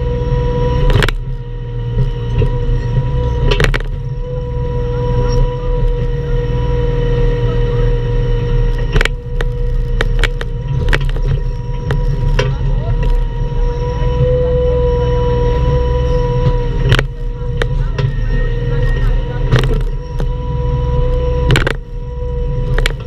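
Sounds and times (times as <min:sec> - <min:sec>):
excavator diesel engine running: 0:00.0 - 0:23.0
high whine: 0:00.0 - 0:23.0.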